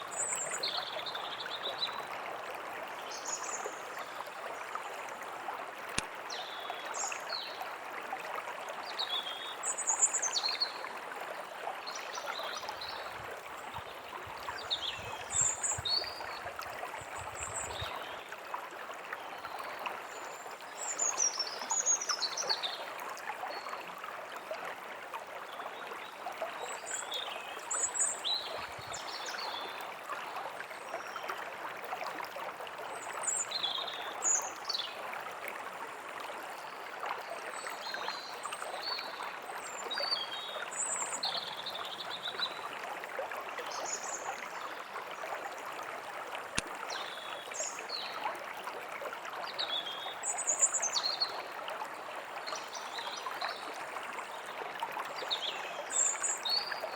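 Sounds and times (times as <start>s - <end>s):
stream flowing: 0.0s - 56.9s.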